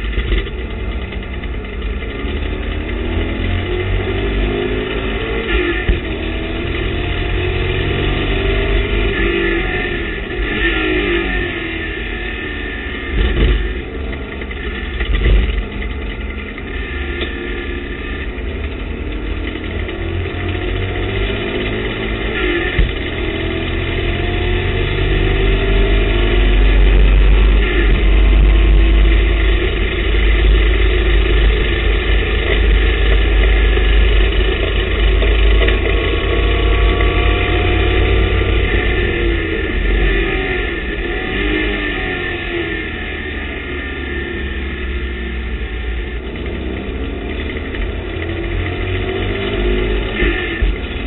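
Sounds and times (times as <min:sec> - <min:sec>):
race car engine accelerating: 0:00.0 - 0:51.0
wind and road noise: 0:00.0 - 0:51.0.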